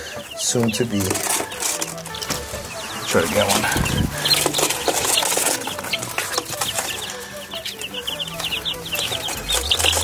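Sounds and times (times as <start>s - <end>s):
chicks peeping shrilly: 0.0s - 10.0s
straw rustling: 0.6s - 10.0s.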